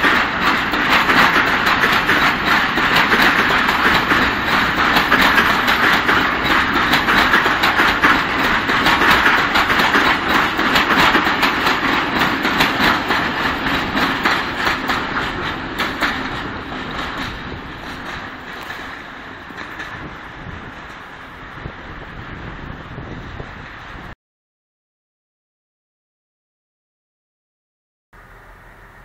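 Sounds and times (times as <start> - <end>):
wheels clicking over rail joints: 0.0 - 23.7
freight train rolling past: 0.0 - 24.2, 28.2 - 29.0.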